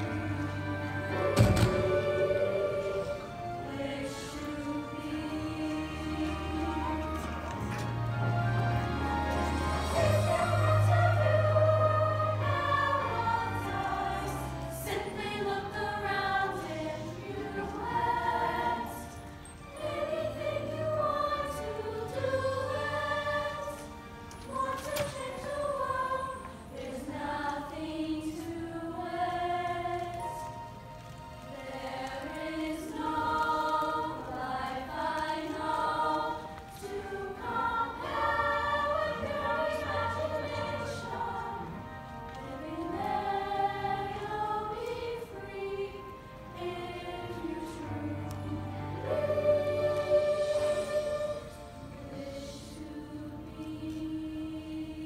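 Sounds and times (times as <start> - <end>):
girls' choir singing in harmony: 0.0 - 55.0.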